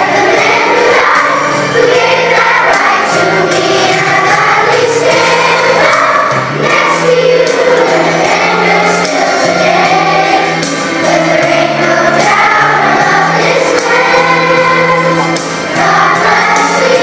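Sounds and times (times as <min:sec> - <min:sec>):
children's choir singing: 0:00.0 - 0:17.0
instrumental backing track: 0:00.0 - 0:17.0.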